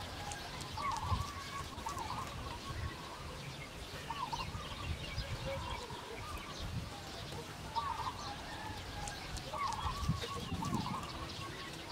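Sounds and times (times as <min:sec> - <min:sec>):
bird calls: 0:00.0 - 0:11.9.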